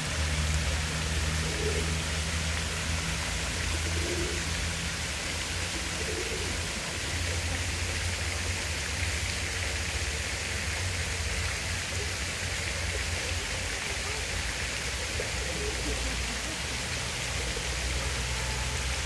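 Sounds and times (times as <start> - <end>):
fountain water splashing: 0.0 - 19.0.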